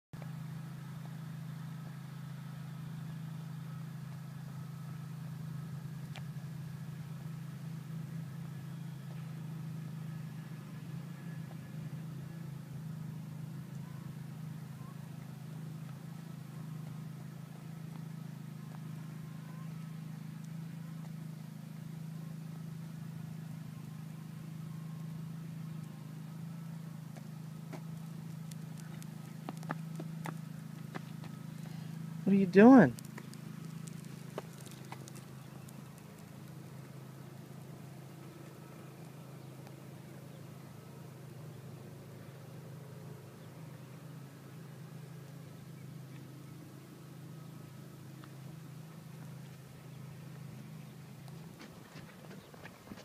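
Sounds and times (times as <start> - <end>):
low mechanical hum: 0.2 - 53.0.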